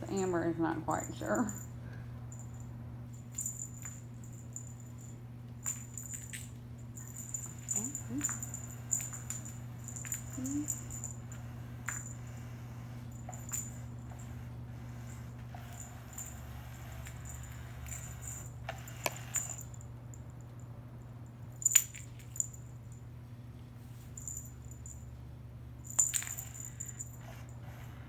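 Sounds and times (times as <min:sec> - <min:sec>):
cat toy metallic jingles: 0:00.0 - 0:20.5, 0:21.5 - 0:23.1, 0:24.0 - 0:25.2, 0:25.8 - 0:28.0
steady low hum: 0:00.0 - 0:28.0.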